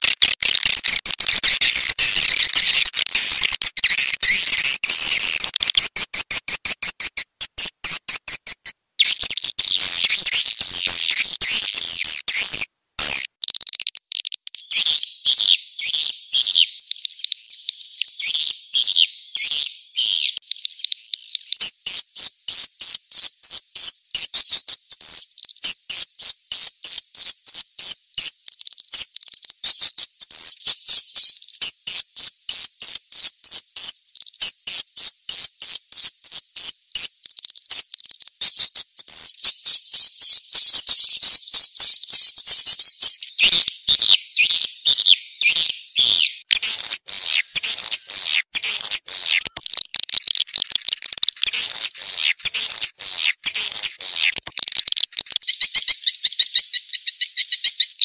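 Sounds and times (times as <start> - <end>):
high-pitched bird chirps: 0.0 - 58.0.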